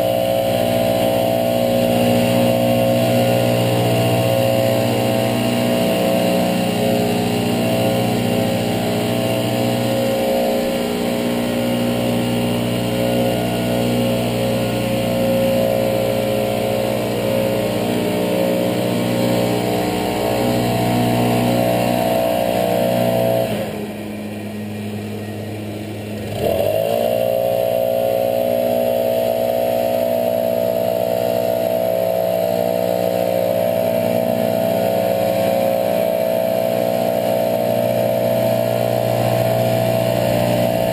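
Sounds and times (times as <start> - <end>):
leaf blower engine: 0.0 - 40.9.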